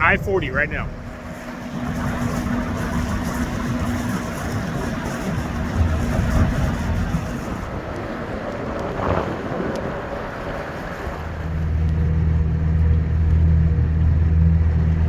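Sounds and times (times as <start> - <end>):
motorboat engine hum: 0.0 - 15.0
water noise: 0.0 - 15.0
wind: 0.0 - 15.0.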